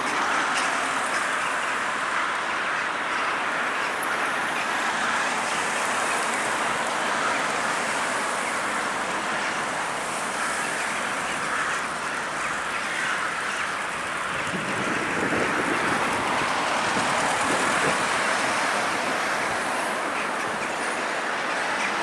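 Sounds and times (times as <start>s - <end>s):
flock of birds chattering: 0.0s - 22.0s.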